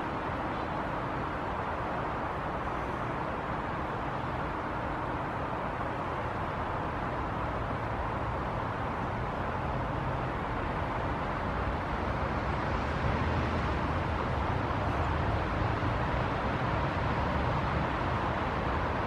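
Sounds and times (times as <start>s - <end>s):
distant road traffic rumble: 0.0s - 19.0s.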